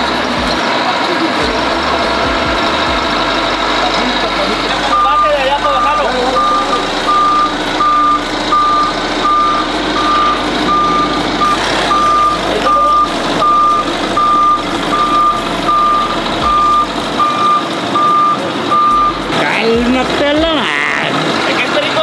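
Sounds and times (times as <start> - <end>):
forklift reversing alarm beeping: 0.0 - 20.4.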